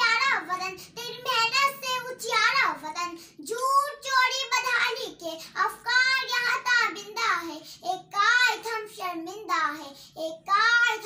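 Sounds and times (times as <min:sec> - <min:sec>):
girl giving a speech: 0:00.0 - 0:11.0.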